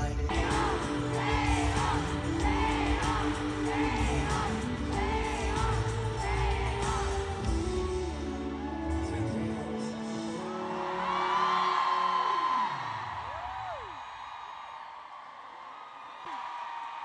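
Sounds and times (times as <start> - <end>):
amplified pop music with singing: 0.0 - 14.2
crowd whooping and yelling: 0.3 - 17.0.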